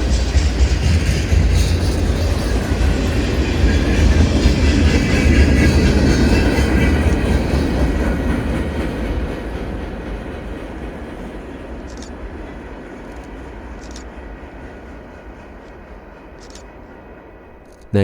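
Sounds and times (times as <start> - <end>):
freight train clattering past: 0.0 - 17.6.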